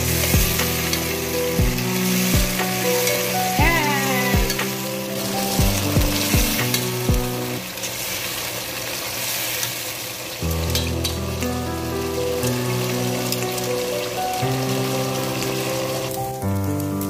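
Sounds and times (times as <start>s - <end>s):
background music: 0.0s - 7.8s, 10.5s - 17.0s
chicken skins sizzling in a pan: 0.0s - 17.0s.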